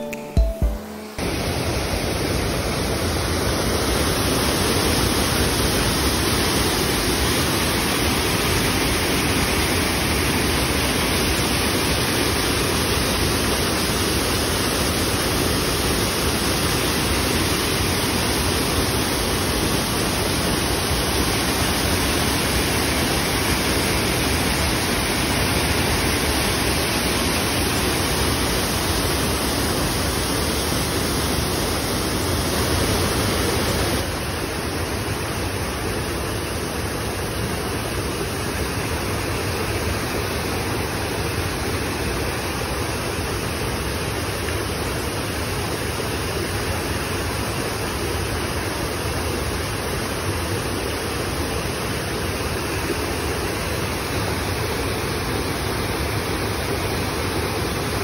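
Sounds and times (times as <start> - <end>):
water rushing over a weir: 1.2 - 58.0.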